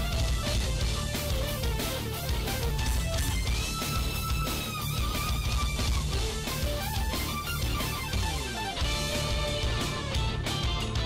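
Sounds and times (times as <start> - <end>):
music with low bass: 0.0 - 11.0.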